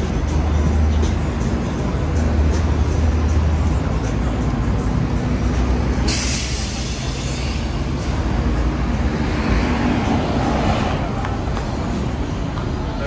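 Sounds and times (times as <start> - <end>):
bus driving past: 0.0 - 13.0
traffic engine and tyre rumble: 0.0 - 13.0.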